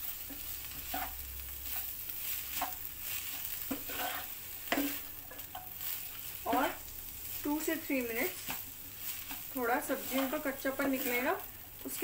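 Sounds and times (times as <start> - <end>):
vegetables sizzling in a pan: 0.0 - 12.0
spatula scraping a pan: 0.1 - 12.0.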